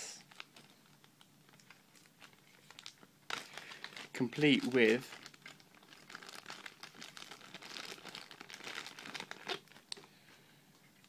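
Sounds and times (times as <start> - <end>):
plastic bag crinkling: 0.2 - 10.4.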